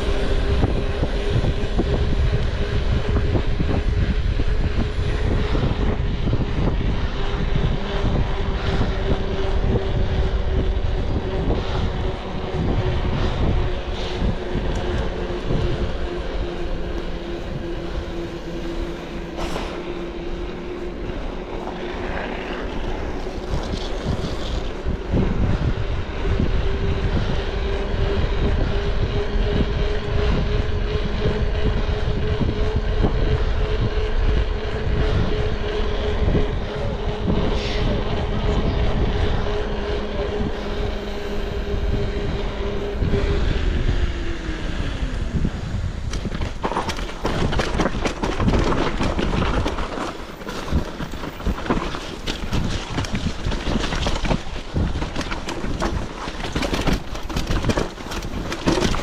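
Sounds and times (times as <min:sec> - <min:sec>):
low rumbling noise: 0:00.0 - 0:59.0
vehicle engine droning: 0:00.0 - 0:59.0.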